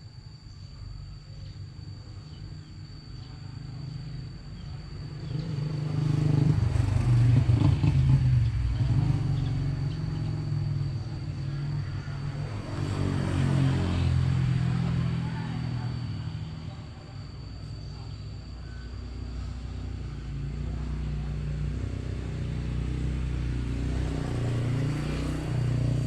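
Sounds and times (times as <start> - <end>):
vehicle engine passing: 5.1 - 26.0.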